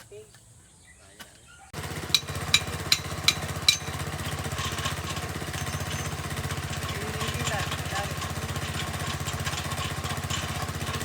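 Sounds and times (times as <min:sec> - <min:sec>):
small engine running: 0:01.7 - 0:11.0
sharp metallic clanks: 0:01.9 - 0:11.0.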